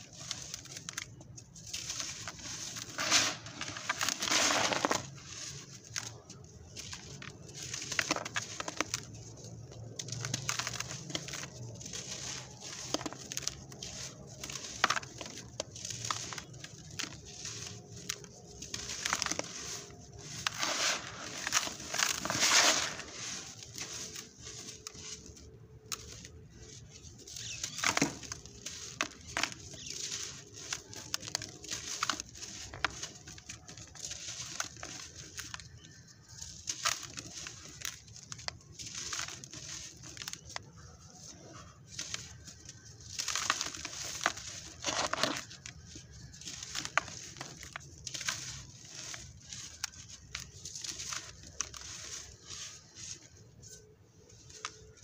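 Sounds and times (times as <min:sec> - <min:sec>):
sand clumps crunching: 0:00.0 - 0:55.0
sand grains trickling: 0:00.0 - 0:55.0.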